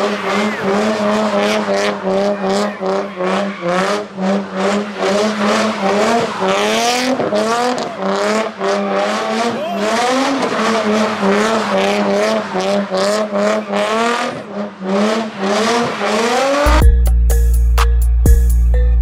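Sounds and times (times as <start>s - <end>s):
car engine revving hard: 0.0s - 16.8s
tires screeching: 0.0s - 16.8s.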